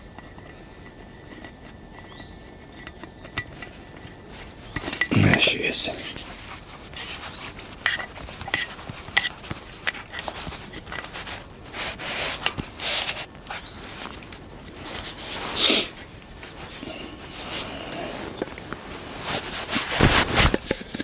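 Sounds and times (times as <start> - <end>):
rustling of camping kit: 0.0 - 21.0.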